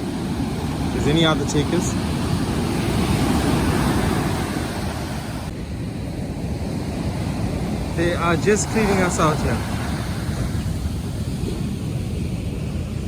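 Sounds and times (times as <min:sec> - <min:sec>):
surf breaking on a beach: 0:00.0 - 0:13.0
wind buffeting the microphone: 0:00.0 - 0:13.0.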